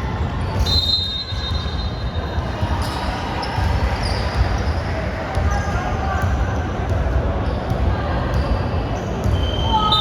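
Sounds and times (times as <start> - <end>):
sneaker squeaks: 0.2 - 10.0.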